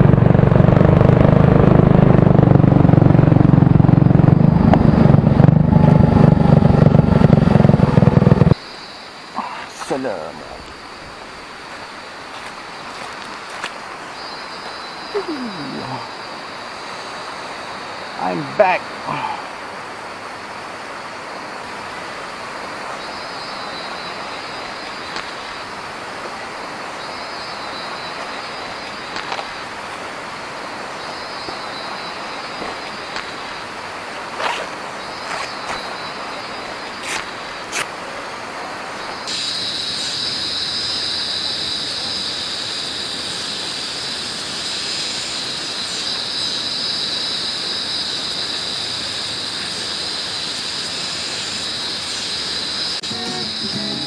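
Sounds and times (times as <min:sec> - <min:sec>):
high insect drone: 0:02.5 - 0:54.0.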